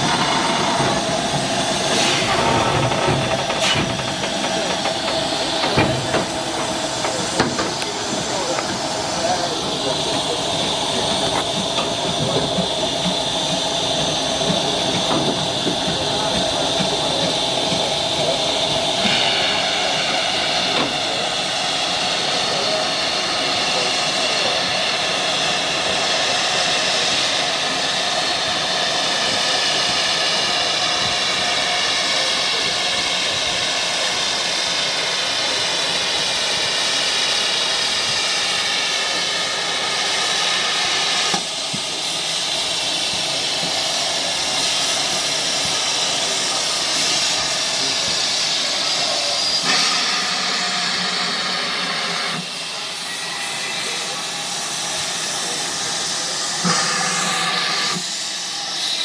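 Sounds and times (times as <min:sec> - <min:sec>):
steam locomotive hissing: 0:00.0 - 0:59.0.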